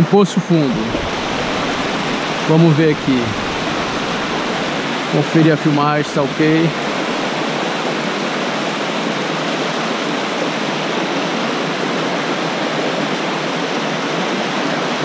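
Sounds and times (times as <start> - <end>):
waterfall rushing over boulders: 0.0 - 15.0.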